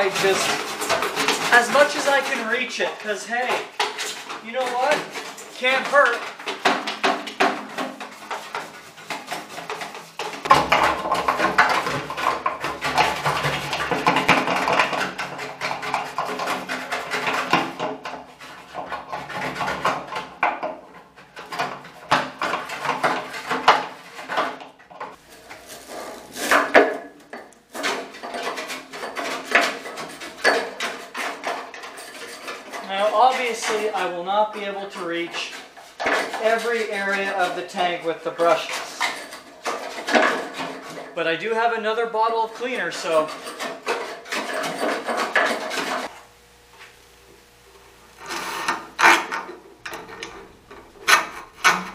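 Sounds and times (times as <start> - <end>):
brush scraping inside metal tank: 0.0 - 51.9.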